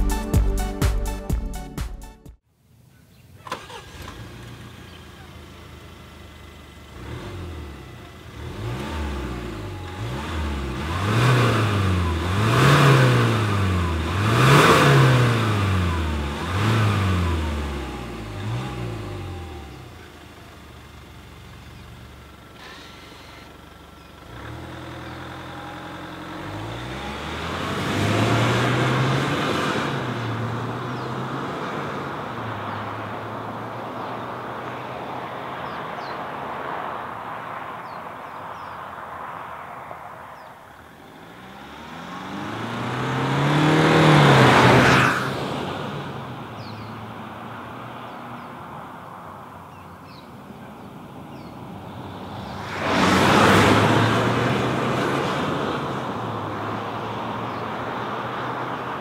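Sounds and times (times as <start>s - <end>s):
diesel engine accelerating hard: 3.5s - 39.6s, 40.6s - 59.0s.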